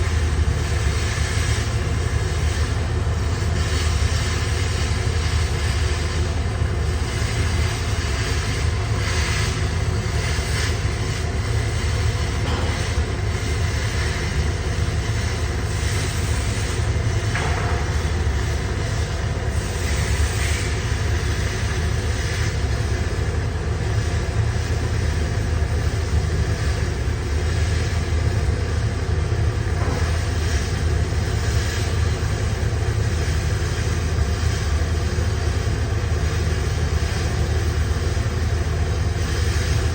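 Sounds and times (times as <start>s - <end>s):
arc welding hum and hiss: 0.0s - 39.9s.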